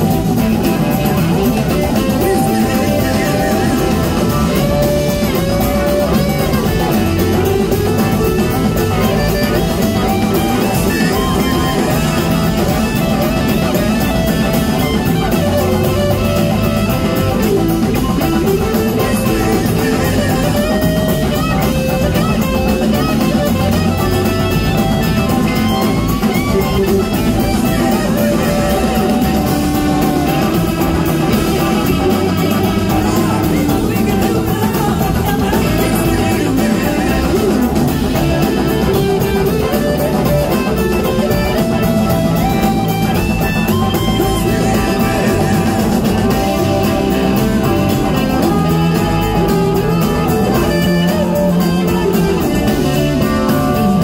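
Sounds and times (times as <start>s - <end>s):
bass guitar: 0.0s - 54.0s
drums: 0.0s - 54.0s
electric guitar solo: 0.0s - 54.0s
second electric guitar: 0.0s - 54.0s.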